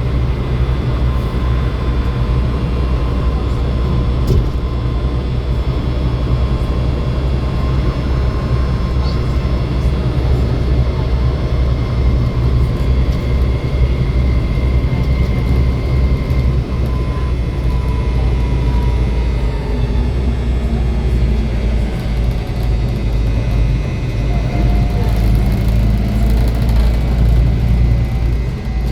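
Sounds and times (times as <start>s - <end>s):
bus engine rumble: 0.0s - 28.9s.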